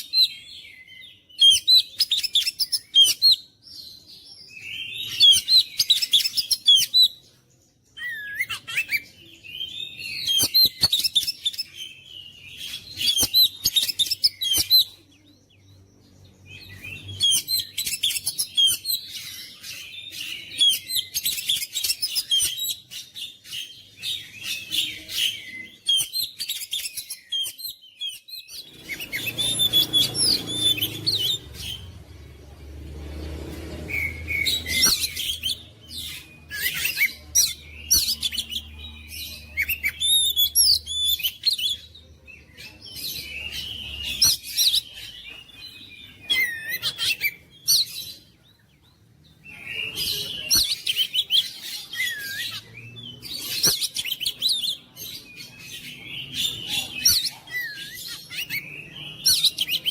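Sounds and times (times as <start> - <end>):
bird singing whistles and chatters: 0.0 - 32.8, 33.4 - 59.9.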